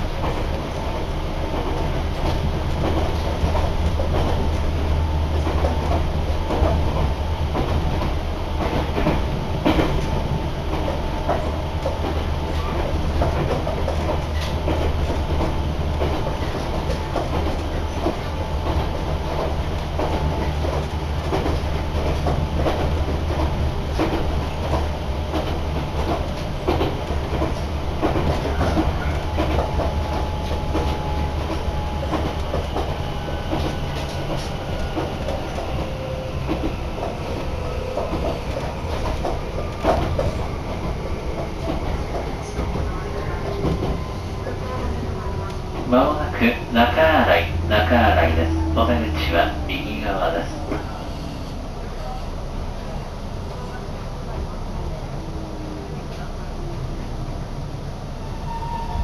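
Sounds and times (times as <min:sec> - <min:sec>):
train rumble: 0:00.0 - 0:59.0
wheels clacking over rail joints: 0:01.5 - 0:49.4.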